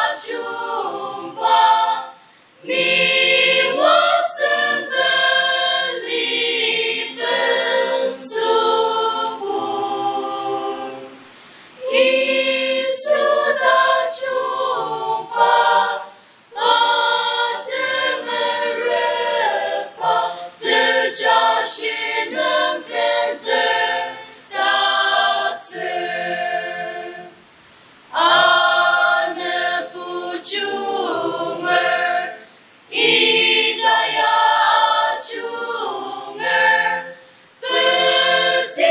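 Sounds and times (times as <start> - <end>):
mixed choir singing a hymn: 0.0 - 27.5, 28.1 - 38.9.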